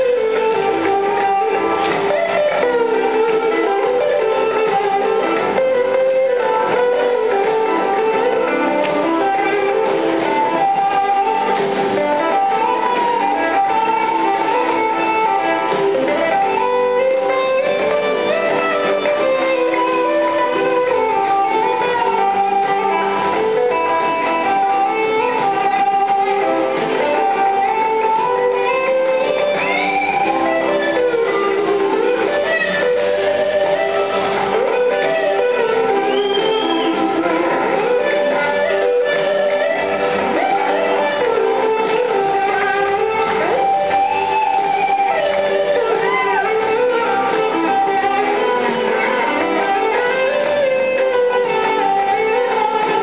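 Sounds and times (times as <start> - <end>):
lead electric guitar line: 0.0 - 53.0
live rock band playing: 0.0 - 53.0.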